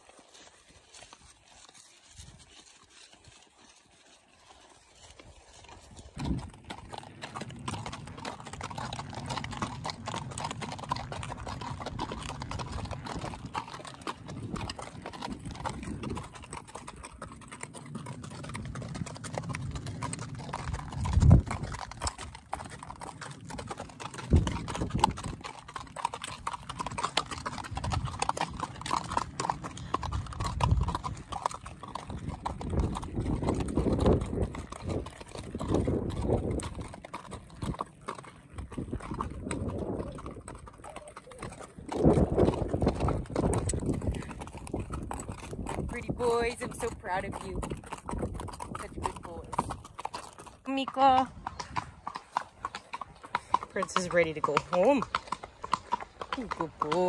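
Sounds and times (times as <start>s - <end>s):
horse hooves clip-clopping: 0.0s - 57.0s.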